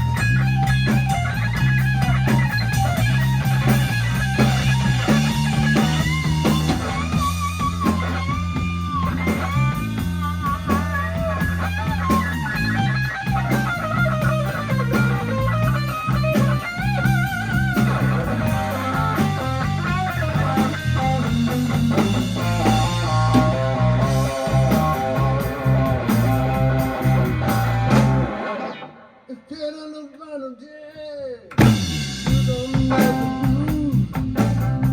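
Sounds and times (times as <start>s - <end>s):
blues band playing: 0.0s - 29.3s, 31.5s - 34.9s
lead guitar solo: 0.0s - 29.3s, 31.6s - 33.9s.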